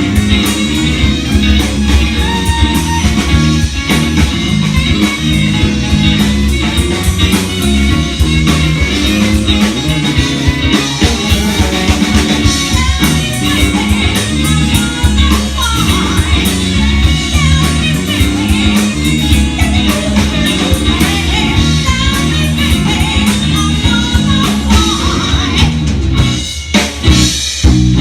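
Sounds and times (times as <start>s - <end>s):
loud guitar band music: 0.0s - 28.0s.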